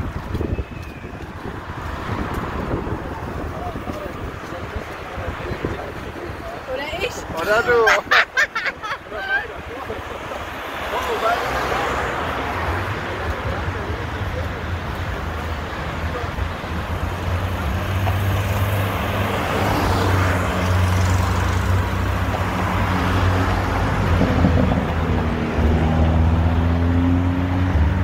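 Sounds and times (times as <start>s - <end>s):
cars driving past: 0.0s - 28.0s.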